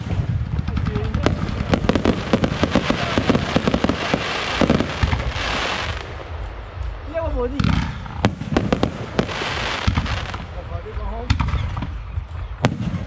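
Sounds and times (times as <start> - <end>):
fireworks crackling hiss: 0.0 - 11.1
fireworks pops and bangs: 0.0 - 13.0.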